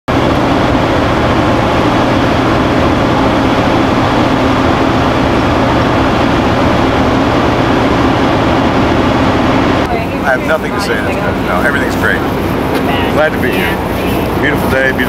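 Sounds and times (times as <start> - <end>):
constant low hum: 0.1 - 15.0
heavy machinery drone: 0.1 - 15.0.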